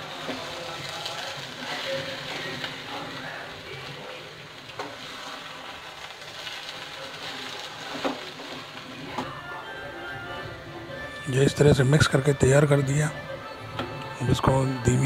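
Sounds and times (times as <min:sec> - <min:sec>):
soft frying hiss: 0:00.0 - 0:15.0.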